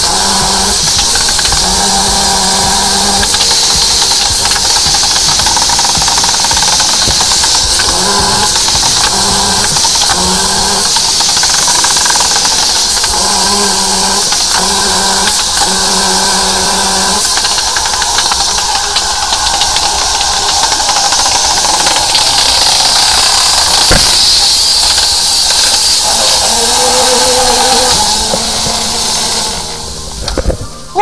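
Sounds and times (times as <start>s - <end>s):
hiss of pressurised water: 0.0s - 31.0s
low drone: 0.0s - 31.0s
pump engine hum: 0.0s - 31.0s.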